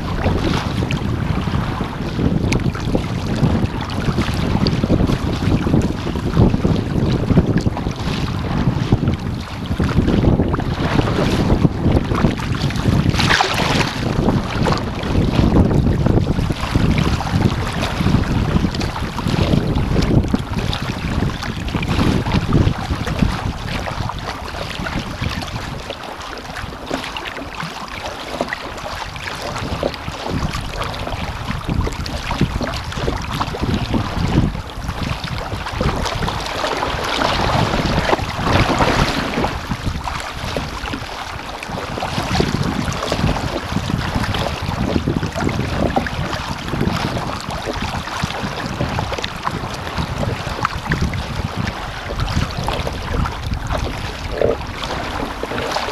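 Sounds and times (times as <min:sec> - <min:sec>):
water slapping against hull: 0:00.0 - 0:55.9
wind buffeting microphone: 0:00.0 - 0:55.9.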